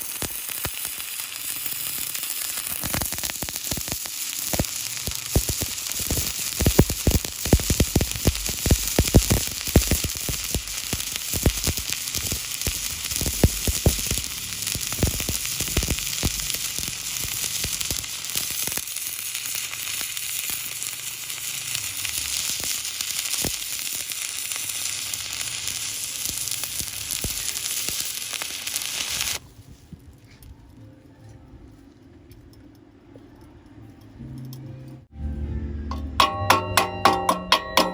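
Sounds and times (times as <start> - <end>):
electric arc welding crackle: 0.0 - 30.5.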